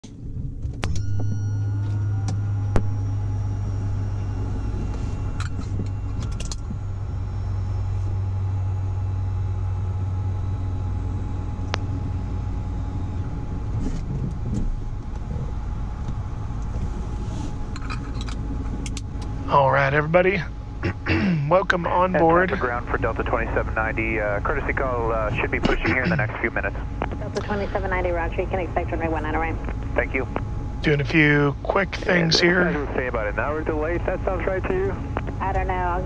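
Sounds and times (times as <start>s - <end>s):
faint electronic whines: 0.0s - 36.0s
low electrical hum: 0.0s - 36.0s.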